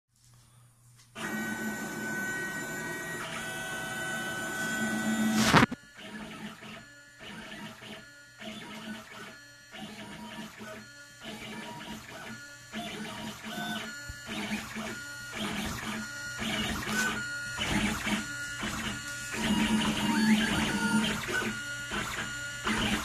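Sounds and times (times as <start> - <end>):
stepper motors whining: 1.2 - 23.0.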